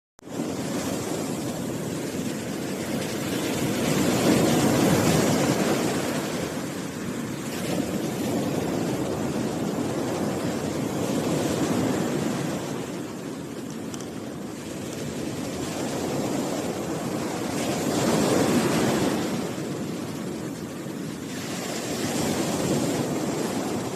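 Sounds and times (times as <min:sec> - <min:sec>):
sea waves breaking on a beach: 0:00.2 - 0:23.9.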